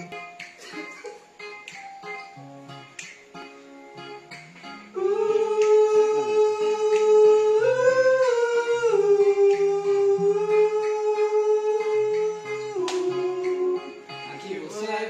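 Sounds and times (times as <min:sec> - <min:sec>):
acoustic guitar notes: 0:00.0 - 0:15.0.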